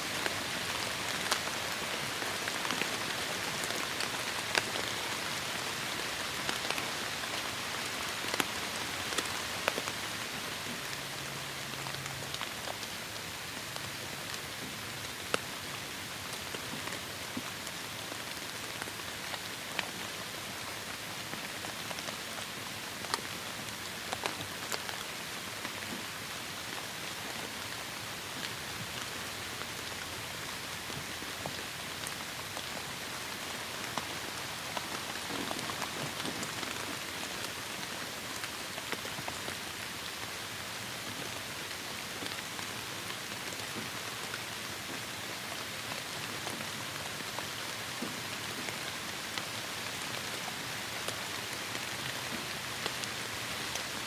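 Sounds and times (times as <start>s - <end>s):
raindrops ticking on a surface: 0.1s - 54.0s.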